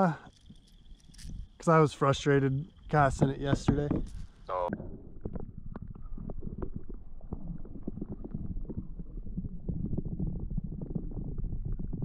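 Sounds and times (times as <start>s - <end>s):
underwater rumble with crackling: 0.3s - 12.0s.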